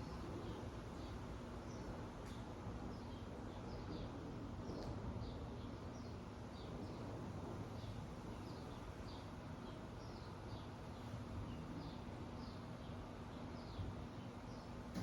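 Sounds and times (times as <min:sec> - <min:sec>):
ceiling fan air rush: 0:00.0 - 0:15.0.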